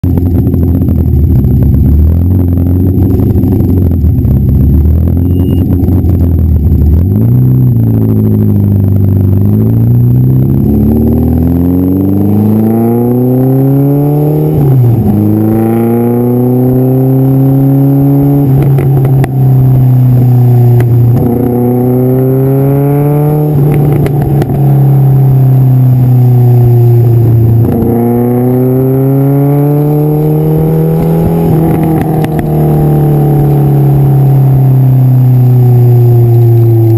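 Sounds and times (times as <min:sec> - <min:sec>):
sports car exhaust accelerating: 0:00.0 - 0:36.9.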